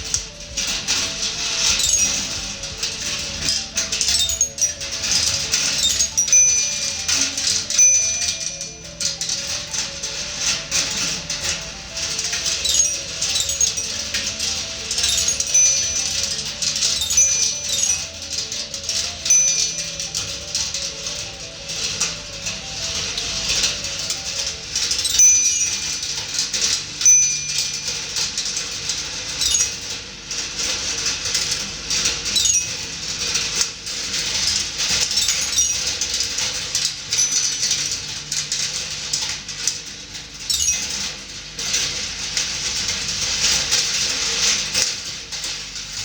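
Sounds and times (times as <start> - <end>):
glass marbles rolling on metal tracks: 0.0 - 46.0.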